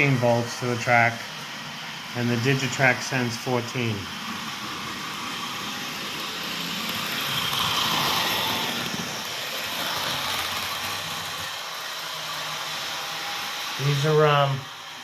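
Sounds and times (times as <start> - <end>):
model train motors and wheels: 0.0 - 15.0.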